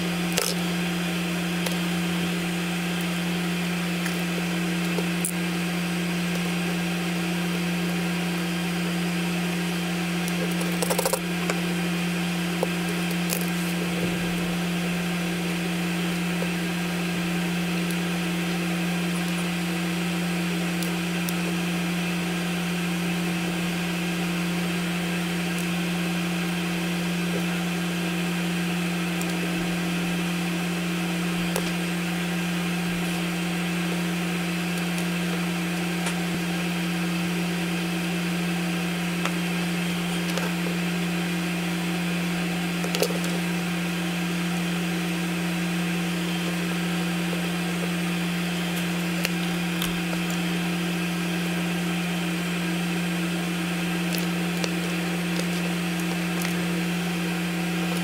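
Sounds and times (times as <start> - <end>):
machine droning hum: 0.0 - 58.0.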